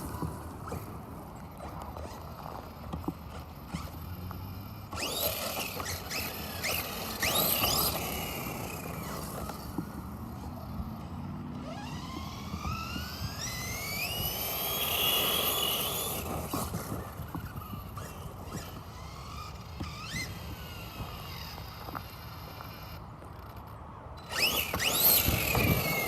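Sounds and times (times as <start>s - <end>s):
electric toy truck motor whining: 0.0s - 26.0s.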